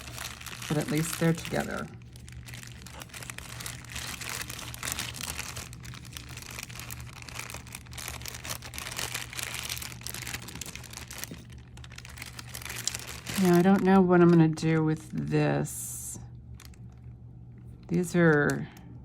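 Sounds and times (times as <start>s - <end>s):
plastic bags crinkling: 0.0s - 15.3s, 16.5s - 18.7s.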